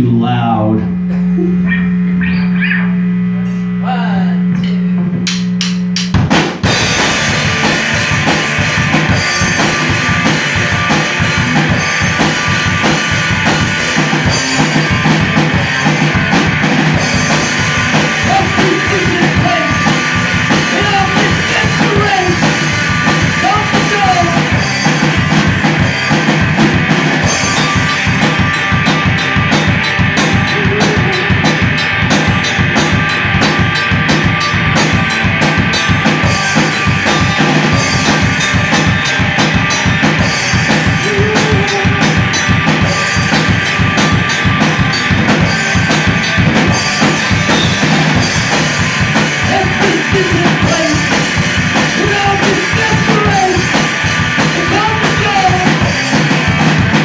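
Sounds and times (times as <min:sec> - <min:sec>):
bass drum and snare beat: 0:04.8 - 0:57.0
live rock band playing: 0:05.3 - 0:57.0.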